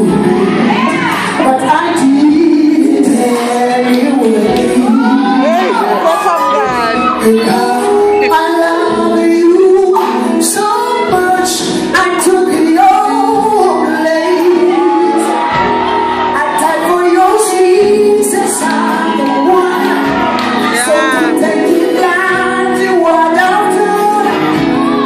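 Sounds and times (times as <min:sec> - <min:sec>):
man singing gospel: 0:00.0 - 0:15.4, 0:16.3 - 0:24.8
backing singers: 0:00.0 - 0:25.0.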